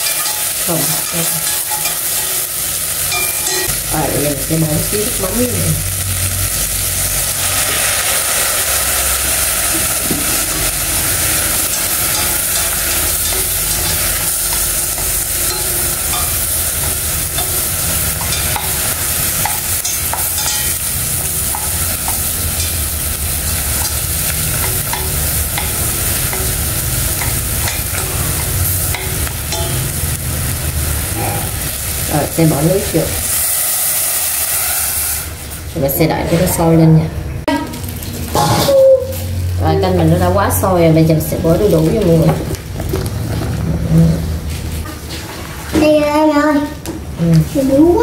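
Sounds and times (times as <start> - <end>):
prawns sizzling in a pot: 0.0 - 36.8, 37.4 - 43.5.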